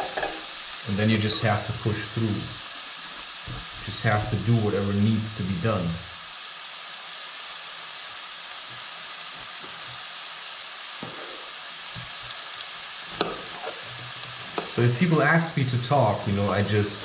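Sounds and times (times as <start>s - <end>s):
mushrooms sizzling in a pan: 0.0s - 17.0s.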